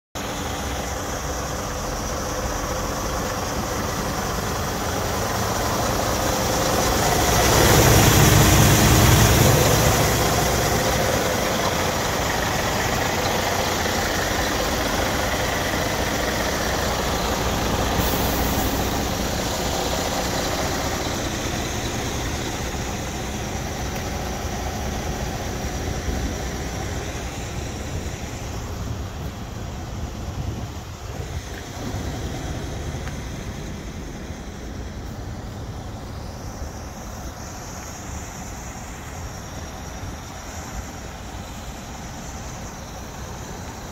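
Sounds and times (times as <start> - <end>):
diesel truck engine idling: 0.2 - 43.9.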